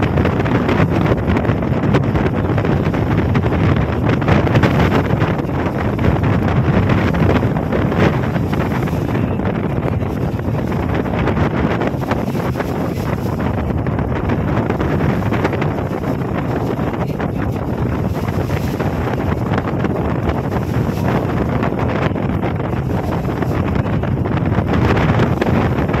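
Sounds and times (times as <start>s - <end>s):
boat engine running: 0.0s - 26.0s
rough sea: 0.0s - 26.0s
wind buffeting microphone: 0.0s - 26.0s.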